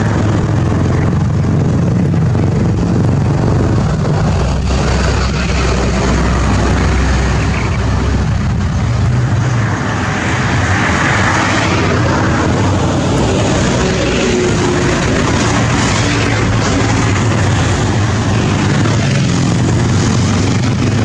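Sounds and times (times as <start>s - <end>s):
diesel trucks labouring uphill: 0.0s - 21.0s.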